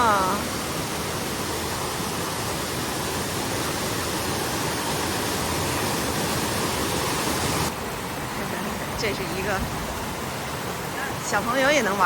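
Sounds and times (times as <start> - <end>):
stream cascading over falls: 0.0 - 12.0.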